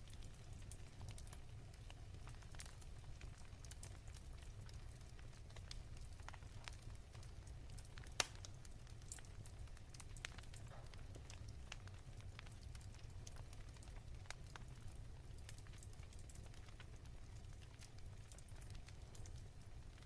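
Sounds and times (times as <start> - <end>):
low fire rumble: 0.0 - 20.0
wood fire crackling: 0.0 - 20.0.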